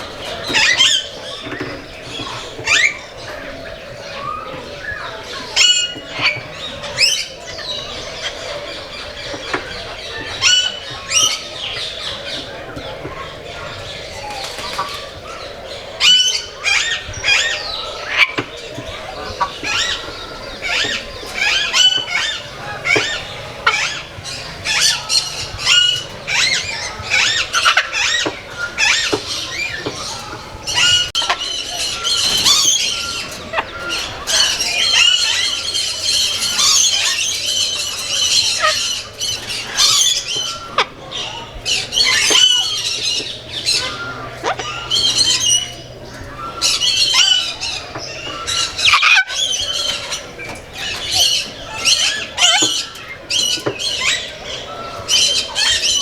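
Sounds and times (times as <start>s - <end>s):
birds squawking and chirping: 0.0s - 56.0s.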